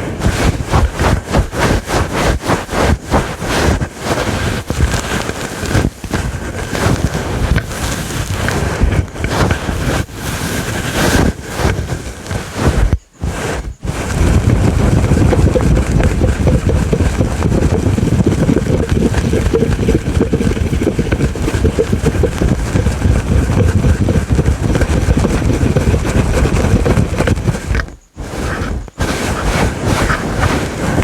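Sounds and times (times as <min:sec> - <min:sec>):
scratching on microphone cover: 0:00.0 - 0:31.0.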